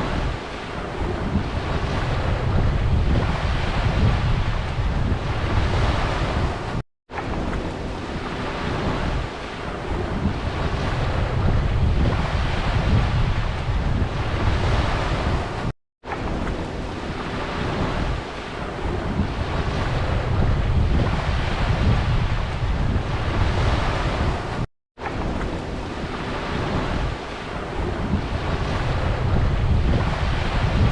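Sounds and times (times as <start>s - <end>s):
ocean surf washing in: 0.0s - 30.9s
wind buffeting microphone: 0.0s - 30.9s.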